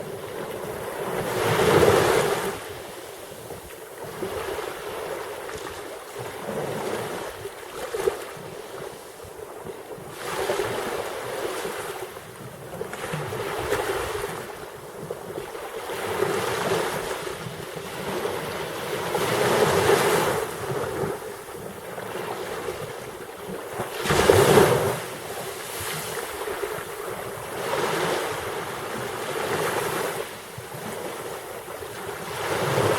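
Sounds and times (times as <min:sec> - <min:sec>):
waves breaking: 0:00.0 - 0:32.9.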